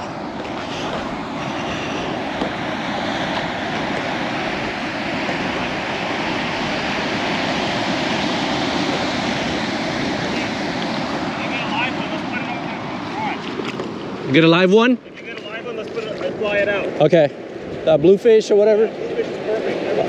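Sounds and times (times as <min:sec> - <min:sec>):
ocean surf: 0:00.0 - 0:20.0
wind: 0:00.0 - 0:20.0.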